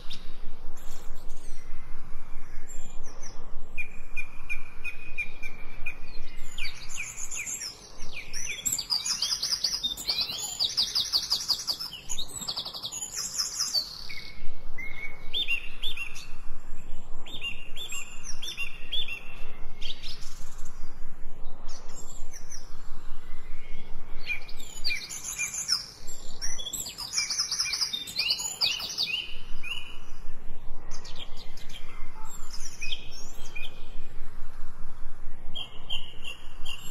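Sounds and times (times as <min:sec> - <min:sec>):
songbirds singing: 0:00.0 - 0:36.9.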